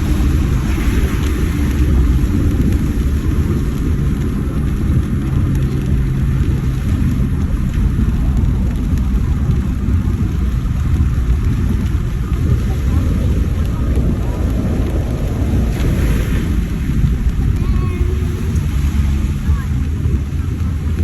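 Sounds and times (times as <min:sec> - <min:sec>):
road noise rumble: 0:00.0 - 0:21.0
vehicle engine hum: 0:00.0 - 0:21.0.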